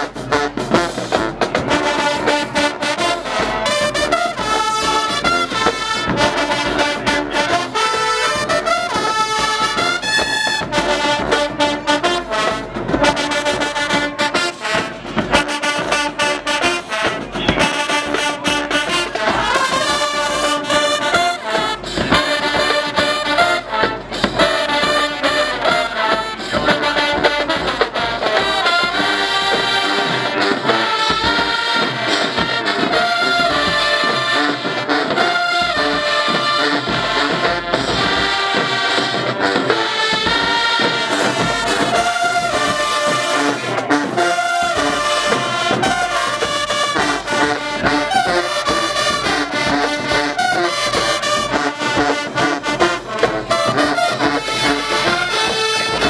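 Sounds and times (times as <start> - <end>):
brass band playing held chords: 0.0 - 56.0
steady drum beat: 0.0 - 56.0.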